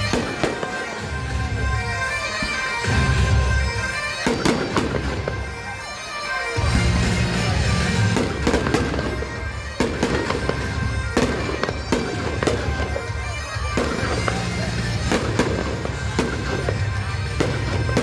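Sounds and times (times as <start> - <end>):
fireworks bangs and crackles: 0.0 - 18.0
loud music with low drone: 0.0 - 18.0.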